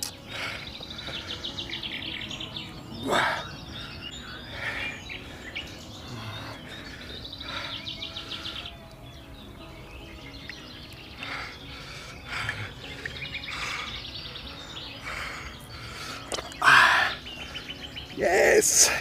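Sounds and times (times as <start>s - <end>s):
birds chirping: 0.0s - 19.0s
high ticking bird trill: 0.0s - 19.0s.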